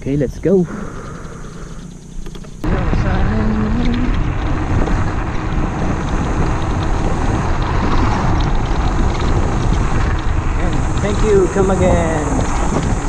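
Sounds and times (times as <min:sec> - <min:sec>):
electric scooter riding: 0:00.0 - 0:13.0
rising whine: 0:00.0 - 0:13.0
wind buffeting microphone: 0:00.0 - 0:13.0.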